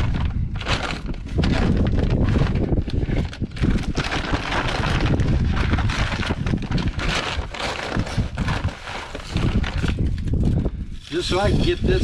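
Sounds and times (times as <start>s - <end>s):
bag crinkling and rustling: 0.0s - 12.0s
wind buffeting microphone: 0.0s - 12.0s.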